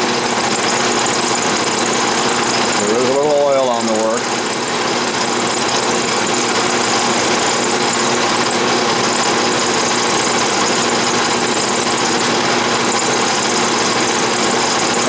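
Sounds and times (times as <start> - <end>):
cutter rasping metal: 0.0 - 15.0
lathe motor humming: 0.0 - 15.0.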